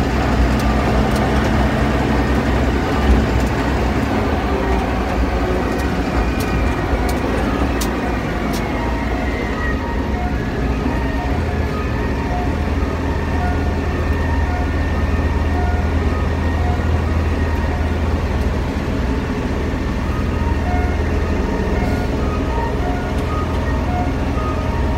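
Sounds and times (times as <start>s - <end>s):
tractor engine drone: 0.0s - 24.9s.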